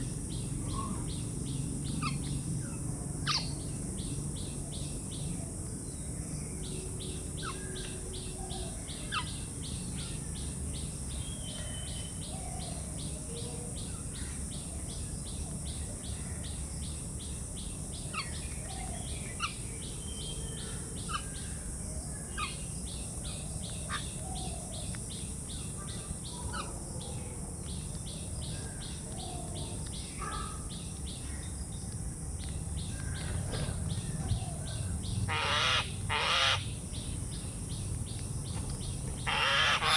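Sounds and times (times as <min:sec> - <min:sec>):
birds chirping: 0:00.0 - 0:39.9
insect pulsing chirr: 0:00.0 - 0:39.9.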